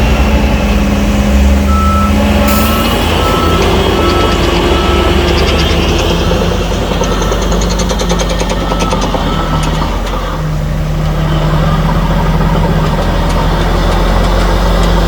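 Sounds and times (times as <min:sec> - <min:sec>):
bulldozer diesel engine running: 0:00.0 - 0:15.0
tracks clicking: 0:00.0 - 0:15.0.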